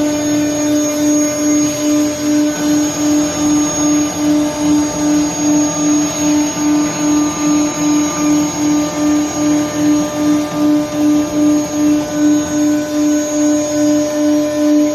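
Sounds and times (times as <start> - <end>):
lathe pulsing hum: 0.0 - 14.9
machine hiss: 0.0 - 14.9
thin high whine: 0.0 - 14.9.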